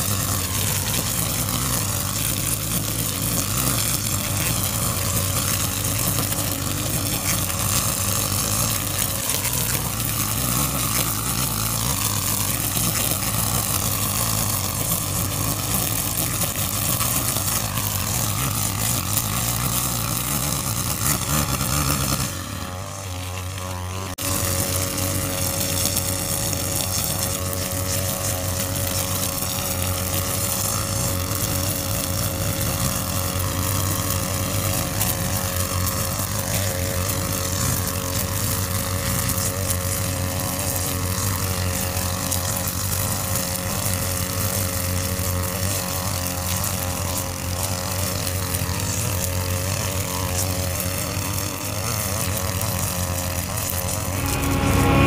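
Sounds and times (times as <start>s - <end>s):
brushcutters cutting grass: 0.0s - 55.0s.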